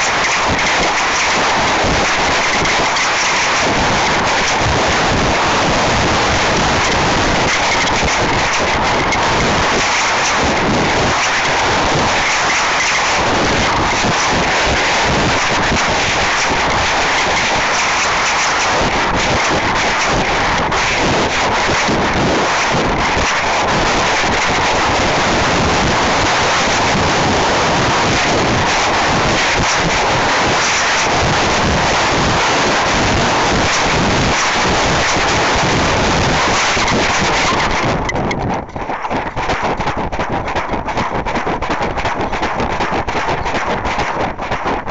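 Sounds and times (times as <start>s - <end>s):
wind rushing past microphone: 0.0s - 44.9s.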